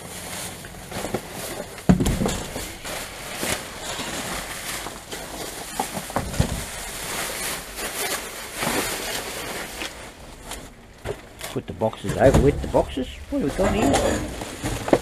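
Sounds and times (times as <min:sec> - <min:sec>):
items knocking and cardboard shifting: 0:00.0 - 0:15.0
plastic bag crinkling: 0:00.0 - 0:15.0.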